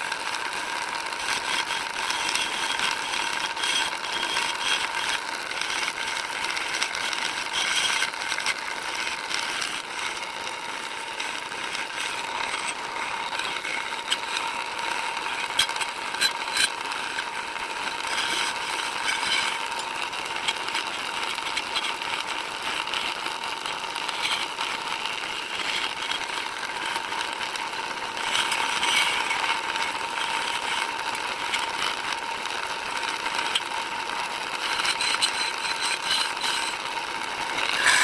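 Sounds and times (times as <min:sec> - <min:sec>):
tool cutting spinning wood: 0:00.0 - 0:38.0
wood lathe whine: 0:00.0 - 0:38.0.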